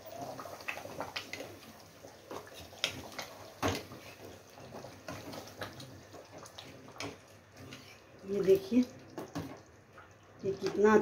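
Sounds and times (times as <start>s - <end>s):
ladle stirring thick curry: 0.2s - 10.4s.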